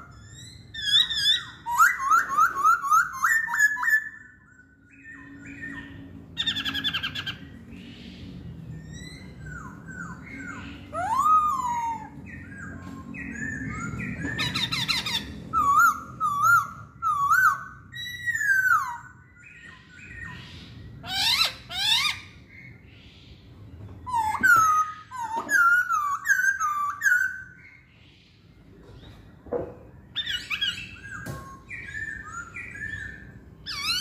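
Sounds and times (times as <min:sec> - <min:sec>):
bird singing whistled notes: 0:00.0 - 0:28.0, 0:30.0 - 0:34.0.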